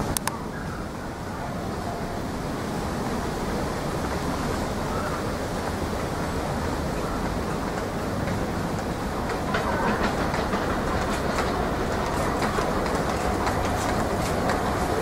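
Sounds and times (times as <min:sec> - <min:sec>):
diesel locomotive engine rumble: 0:00.0 - 0:15.0
wind-like hiss: 0:00.0 - 0:15.0.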